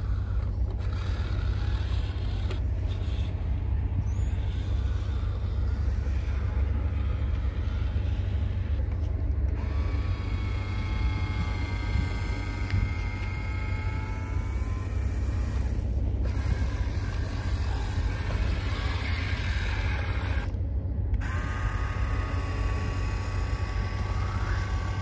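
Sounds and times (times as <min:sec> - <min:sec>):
low engine-like rumble: 0:00.0 - 0:25.0
motor whine: 0:00.0 - 0:25.0.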